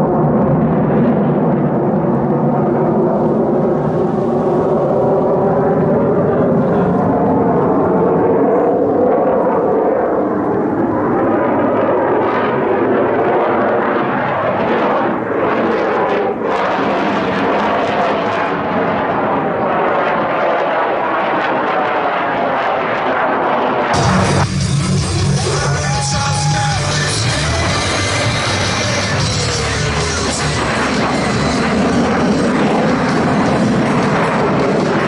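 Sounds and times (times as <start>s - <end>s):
loud jet engine noise: 0.0s - 35.0s.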